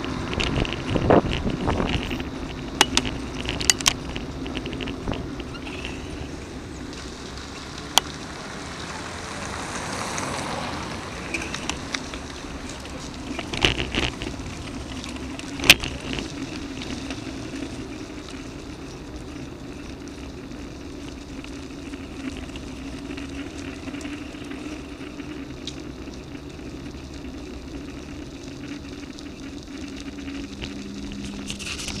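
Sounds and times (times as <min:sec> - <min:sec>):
bicycle rolling on rough asphalt: 0:00.0 - 0:32.0.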